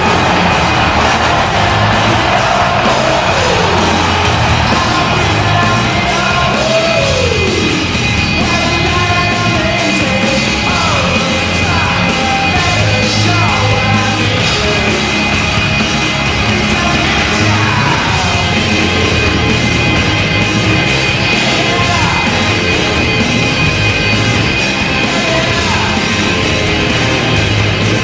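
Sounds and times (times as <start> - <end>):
loud rock music: 0.0 - 28.0
voices yelling: 0.0 - 28.0.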